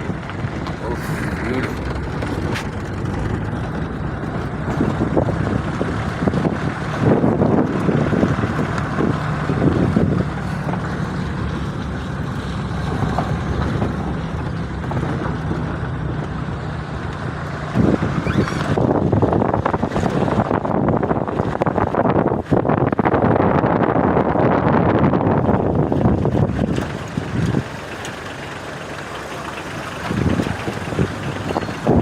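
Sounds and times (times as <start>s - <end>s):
road and wind noise: 0.0s - 32.0s
vehicle engine hum: 0.0s - 32.0s.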